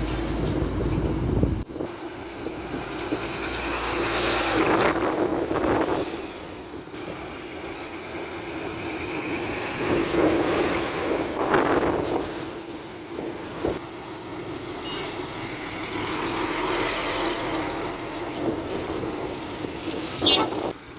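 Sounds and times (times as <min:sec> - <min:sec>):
truck engine under load: 0:00.0 - 0:20.9.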